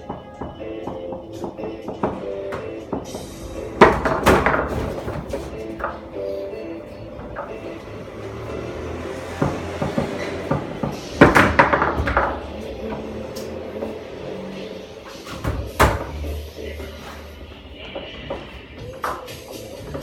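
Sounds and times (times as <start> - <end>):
foosball ball clacking: 0.0 - 20.0.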